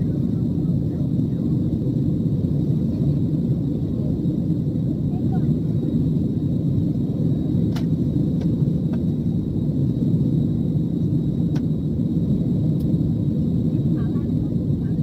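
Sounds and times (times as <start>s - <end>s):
jet engines and rushing air: 0.0s - 15.0s.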